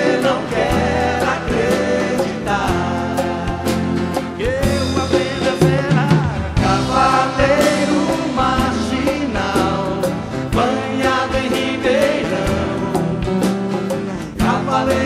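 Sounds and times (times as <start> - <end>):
acoustic guitar: 0.0 - 15.0
drum kit with snare hits: 0.0 - 15.0
person singing: 0.0 - 15.0.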